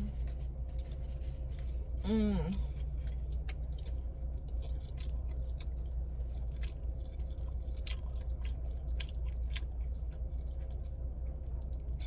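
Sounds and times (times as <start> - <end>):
low hum: 0.0 - 12.0
person chewing food: 0.0 - 12.0.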